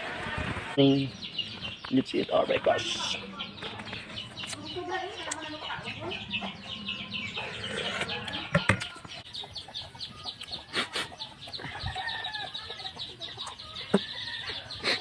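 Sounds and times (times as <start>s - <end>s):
fast steady bird chirping: 0.8s - 15.0s
bird clucking: 1.1s - 15.0s.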